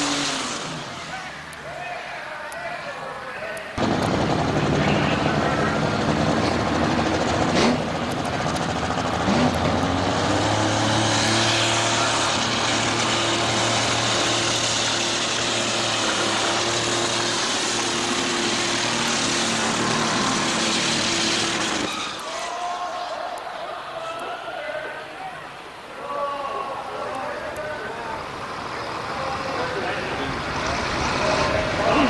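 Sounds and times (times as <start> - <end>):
tractor engine at full throttle: 0.0 - 22.4, 27.1 - 32.0.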